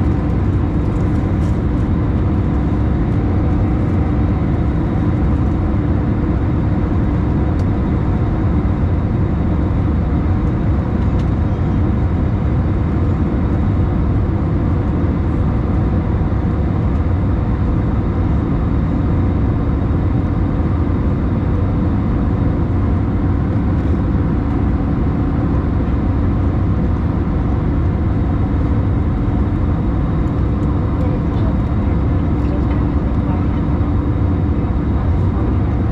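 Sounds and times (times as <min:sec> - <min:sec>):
jet engine cabin drone: 0:00.0 - 0:35.9.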